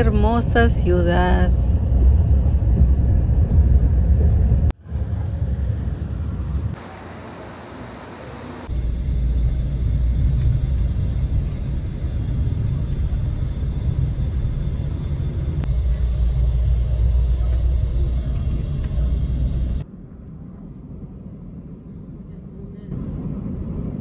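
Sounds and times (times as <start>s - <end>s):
road rumble inside vehicle: 0.0s - 24.0s
wind noise: 0.0s - 24.0s.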